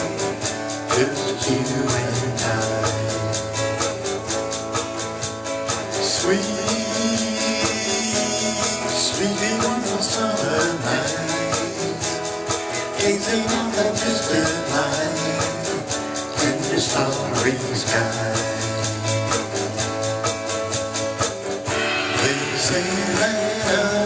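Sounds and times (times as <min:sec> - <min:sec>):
electronic drum beat: 0:00.0 - 0:24.0
guitar playing: 0:00.0 - 0:24.0.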